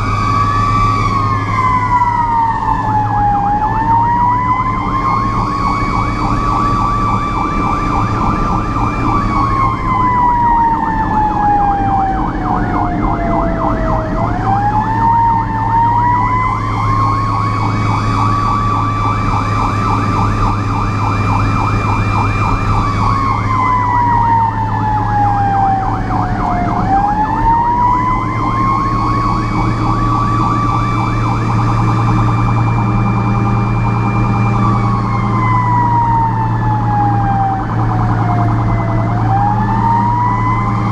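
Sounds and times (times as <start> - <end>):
low engine drone: 0.0 - 40.9
rapid pulsing siren tone: 0.0 - 40.9
wailing fire truck siren: 0.0 - 40.9.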